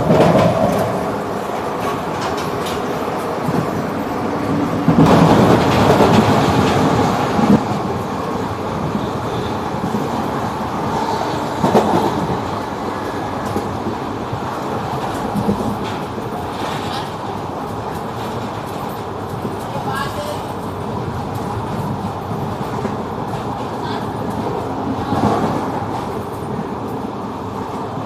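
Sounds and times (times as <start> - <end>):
train rumble: 0.0 - 28.0
train wheels clattering on rails: 0.0 - 28.0.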